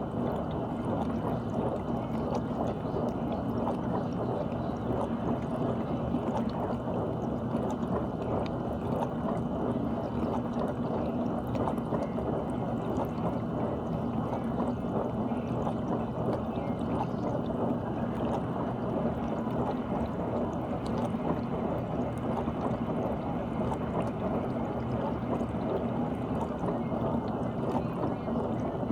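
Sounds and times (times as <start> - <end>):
pump motor hum: 0.0 - 28.9.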